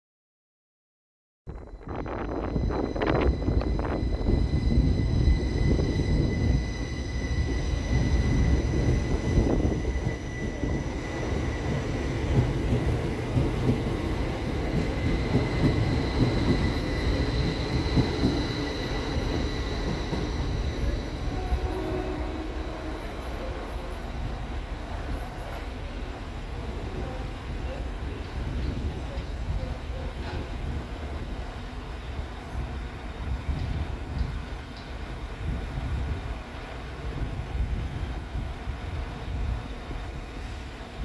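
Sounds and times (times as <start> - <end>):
train high whine: 1.5 - 41.0
train wheels rumbling on rail: 1.9 - 41.0.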